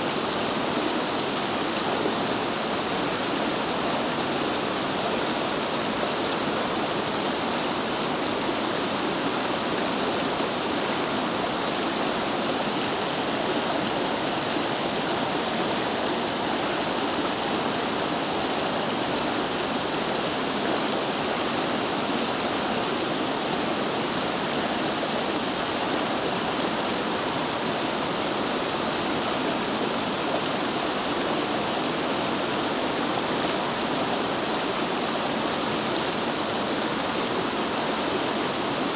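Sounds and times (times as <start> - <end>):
stream rushing over boulders: 0.0 - 38.9.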